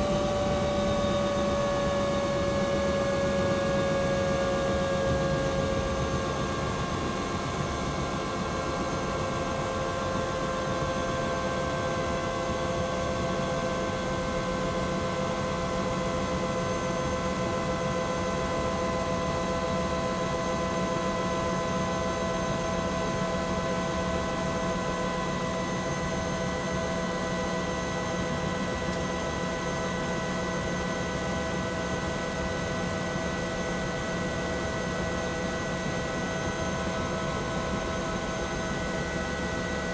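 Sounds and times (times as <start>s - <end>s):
helicopter rotor and engine rumble: 0.0s - 39.9s
turbine whine: 0.0s - 39.9s.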